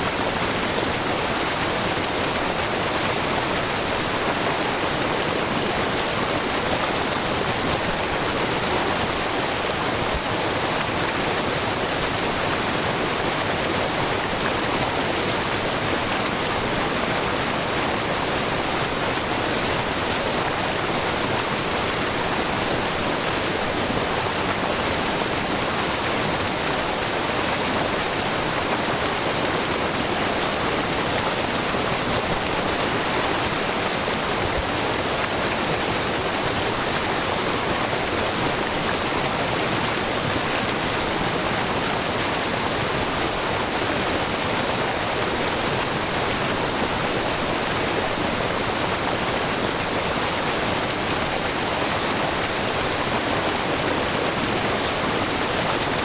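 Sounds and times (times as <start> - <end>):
waterfall pouring into brook: 0.0 - 56.0.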